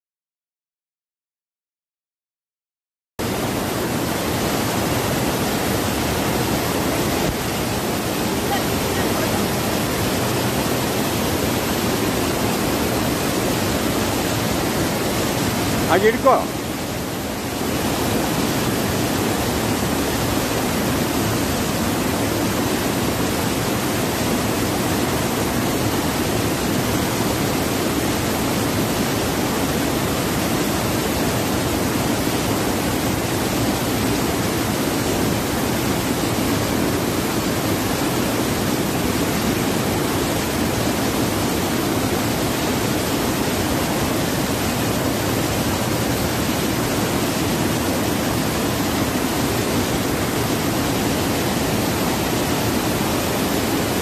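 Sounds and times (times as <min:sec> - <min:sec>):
water rushing over waterfall: 0:03.2 - 0:54.0.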